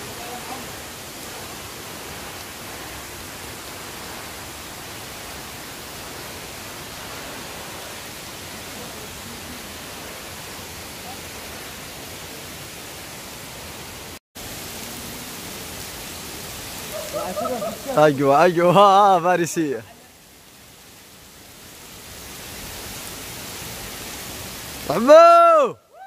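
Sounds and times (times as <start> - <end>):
water pouring from rock overhang: 0.0 - 26.0.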